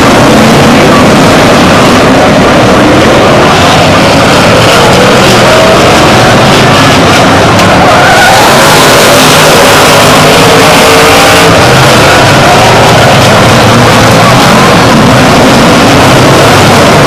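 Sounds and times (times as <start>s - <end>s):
race car engines: 0.0s - 17.0s
tires skidding: 0.0s - 17.0s.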